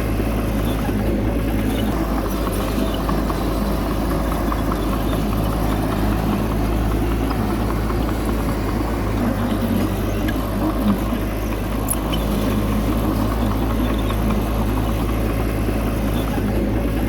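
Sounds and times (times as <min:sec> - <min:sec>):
bulldozer diesel engine running: 0:00.0 - 0:17.0
small clicks and rattles: 0:00.6 - 0:17.0.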